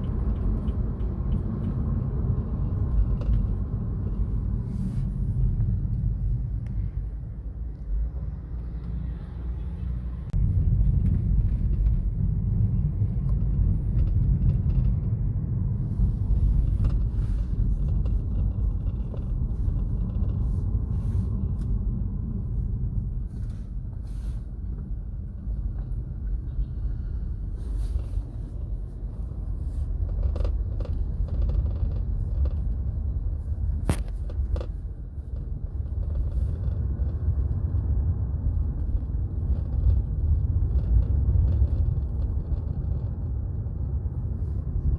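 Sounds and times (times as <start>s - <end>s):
road and cabin rumble: 0.0s - 44.9s.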